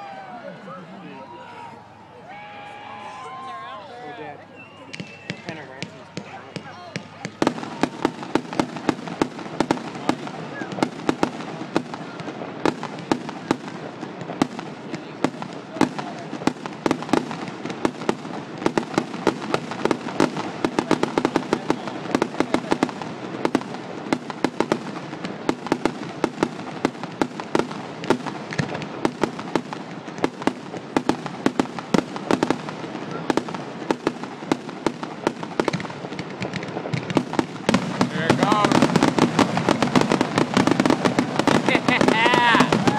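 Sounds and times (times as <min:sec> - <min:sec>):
fireworks cracking and banging: 0:00.0 - 0:42.9
fireworks crackling: 0:00.0 - 0:42.9.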